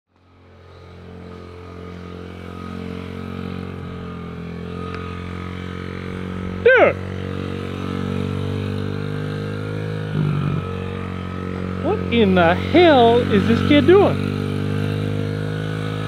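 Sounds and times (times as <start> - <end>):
mini-bike engine running: 0.1 - 16.0.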